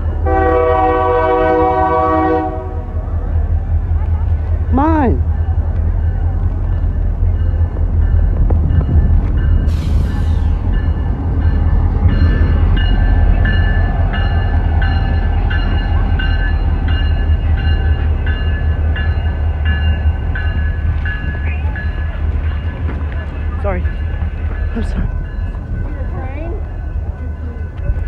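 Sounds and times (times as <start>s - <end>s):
diesel locomotive rumble: 0.0s - 28.0s
railroad crossing bell ringing: 4.2s - 28.0s.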